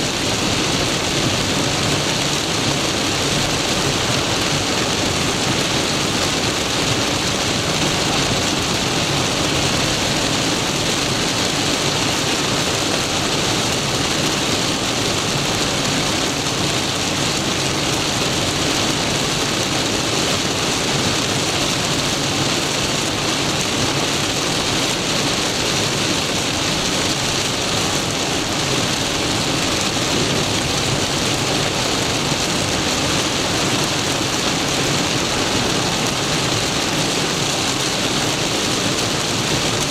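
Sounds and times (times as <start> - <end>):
heavy rain drumming on car: 0.0 - 39.9
tyres spraying on flooded road: 0.0 - 39.9.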